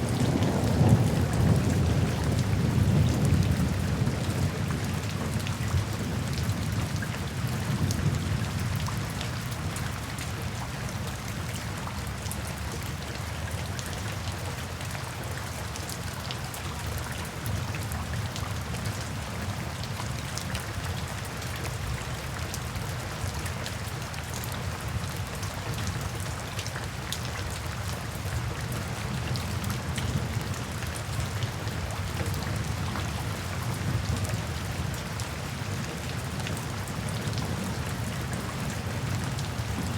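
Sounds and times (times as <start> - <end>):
rain falling in a forest: 0.0 - 39.9
raindrops striking close by: 0.0 - 39.9.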